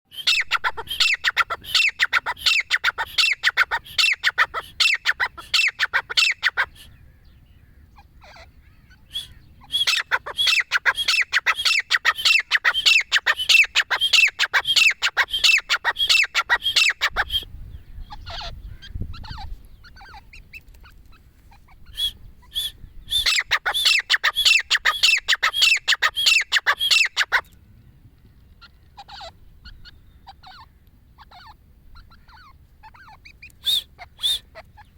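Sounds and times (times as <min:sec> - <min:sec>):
francolins calling: 0:00.1 - 0:34.9.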